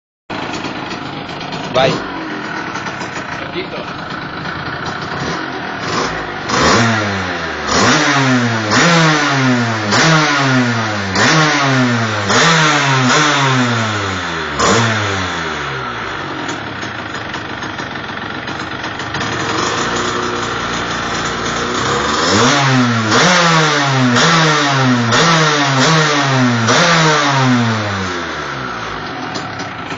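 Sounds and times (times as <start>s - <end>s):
motorcycle engine idling and revving: 0.3s - 29.9s.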